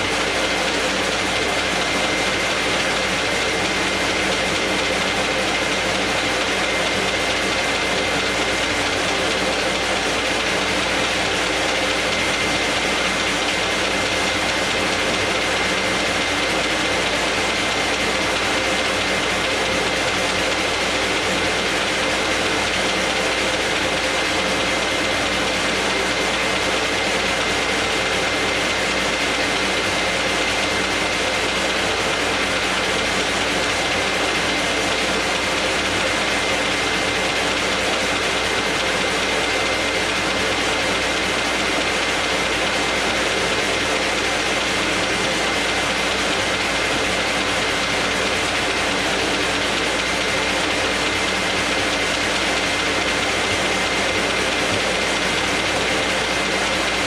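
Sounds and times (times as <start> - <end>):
high machine whine: 0.0 - 57.0
paper folder machine clattering: 0.0 - 57.0.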